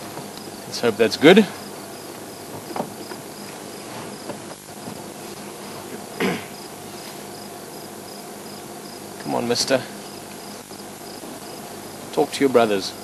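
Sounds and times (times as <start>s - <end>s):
faint outdoor background: 0.0s - 13.0s
insect chirping: 0.3s - 4.8s, 5.7s - 13.0s.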